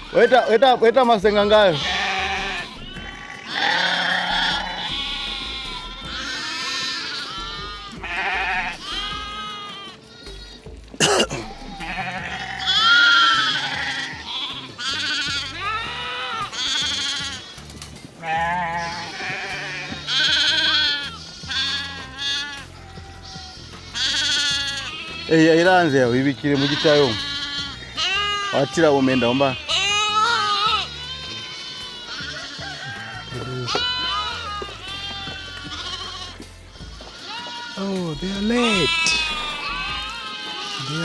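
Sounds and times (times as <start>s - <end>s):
sheep and goats bleating: 0.0s - 41.0s.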